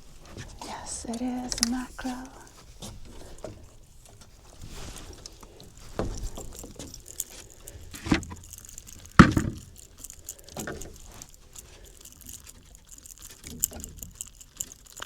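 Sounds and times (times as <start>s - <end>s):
light metallic rattle: 0.2s - 15.0s
fish thrashing and knocking: 1.2s - 15.0s.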